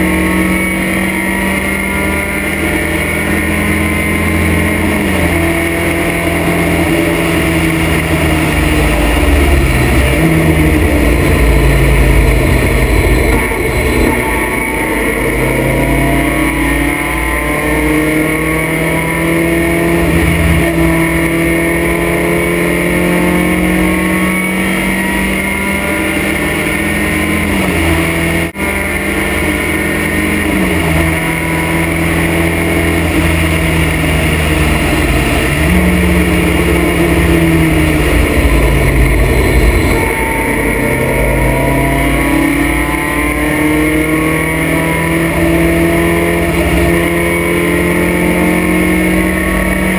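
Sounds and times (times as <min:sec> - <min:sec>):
race car engine: 0:00.0 - 0:49.9
wind and road noise: 0:00.0 - 0:49.9.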